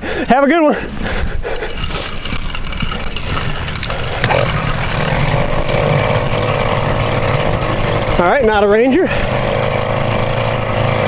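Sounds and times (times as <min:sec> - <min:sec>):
two-stroke engine revving: 0:01.4 - 0:11.0.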